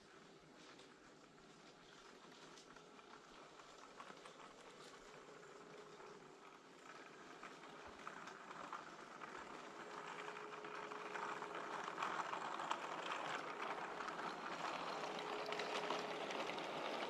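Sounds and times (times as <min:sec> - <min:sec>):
wheels clicking on rails: 0:00.1 - 0:17.0
model train motor hum: 0:01.6 - 0:17.0.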